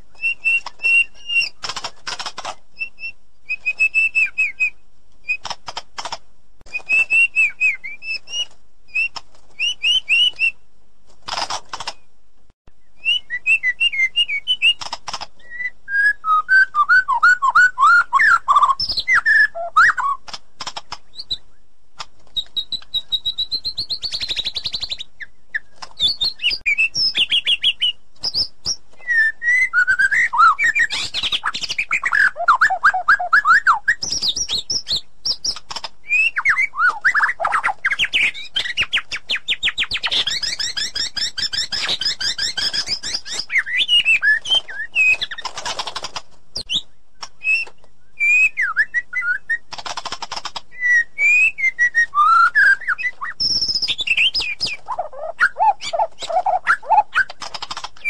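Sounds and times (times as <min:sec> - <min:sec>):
bird singing varied song: 0:00.0 - 0:05.6, 0:06.7 - 0:10.6, 0:12.7 - 0:21.7, 0:22.3 - 0:58.0.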